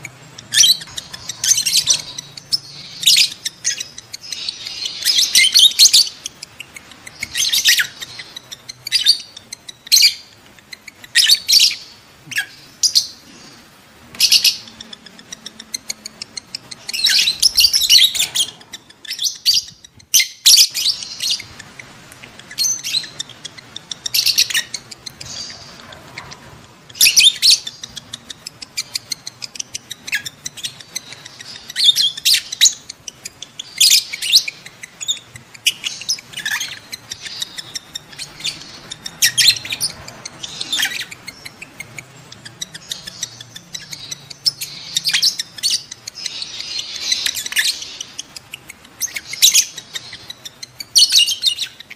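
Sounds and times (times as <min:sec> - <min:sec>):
lovebirds chirping: 0:00.0 - 0:51.9.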